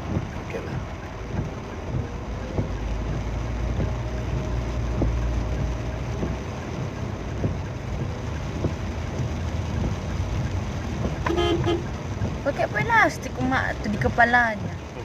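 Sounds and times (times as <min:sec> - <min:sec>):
engine and road rumble: 0:00.0 - 0:15.0
wind and rain noise: 0:00.0 - 0:15.0.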